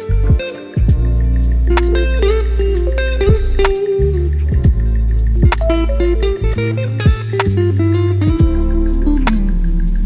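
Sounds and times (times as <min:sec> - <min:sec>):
bass and drums: 0:00.0 - 0:10.0
electric guitar melody: 0:00.0 - 0:10.0.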